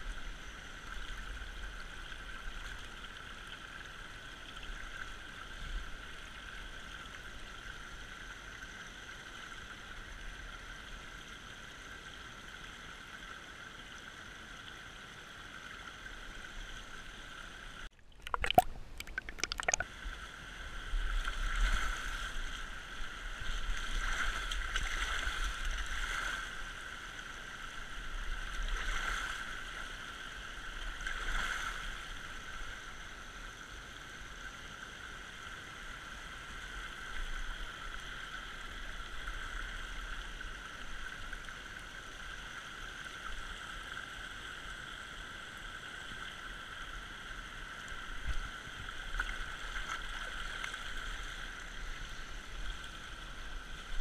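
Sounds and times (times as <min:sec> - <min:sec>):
creek water running over rock: 0:00.0 - 0:54.0.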